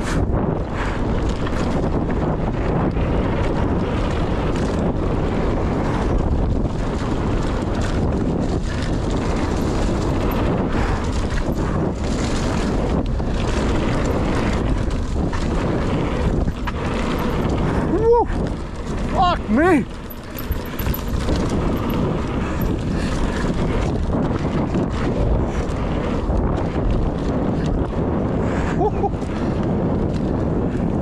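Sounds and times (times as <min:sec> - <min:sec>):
bike clattering over rough trail: 0:00.0 - 0:31.0
wind buffeting the microphone: 0:00.0 - 0:31.0.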